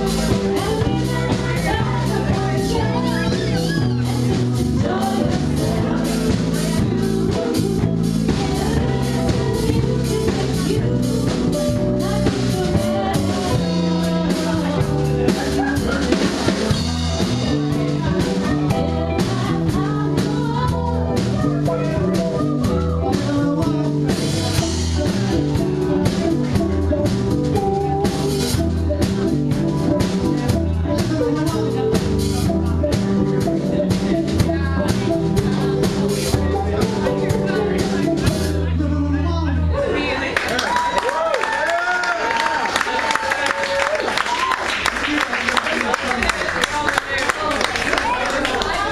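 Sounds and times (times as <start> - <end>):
woman singing: 0.0 - 39.2
live rock band playing: 0.0 - 48.9.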